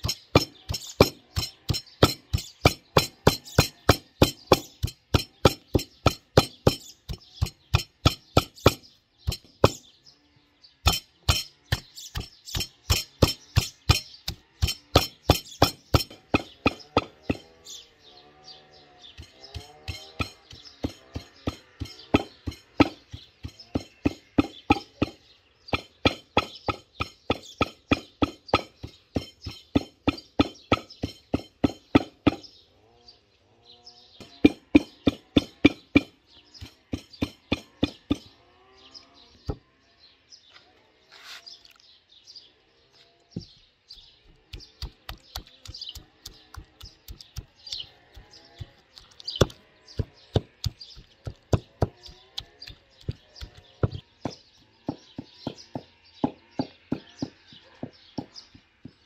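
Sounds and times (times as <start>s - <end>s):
stone pounding nuts in wooden bowl: 0.0s - 9.9s, 10.8s - 17.8s, 19.2s - 32.5s, 34.2s - 38.3s, 44.2s - 59.0s
small birds chirping: 0.0s - 59.0s.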